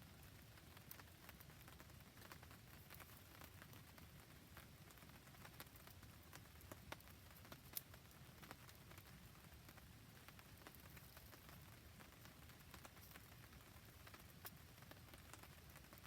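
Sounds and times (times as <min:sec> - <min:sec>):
campfire crackling: 0:00.0 - 0:16.0
faint rain hiss: 0:00.0 - 0:16.0.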